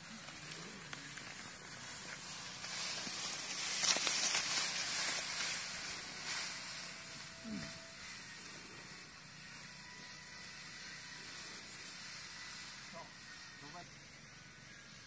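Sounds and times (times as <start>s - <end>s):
dry straw rustling: 0.0s - 15.0s.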